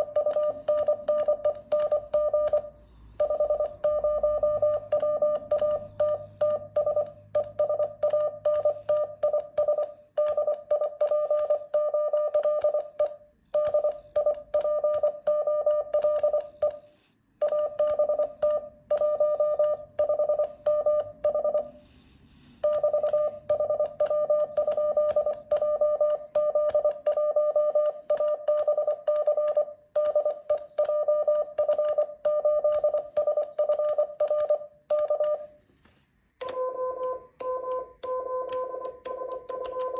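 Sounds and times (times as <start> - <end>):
morse code beeps: 0.0 - 35.6, 36.4 - 39.9.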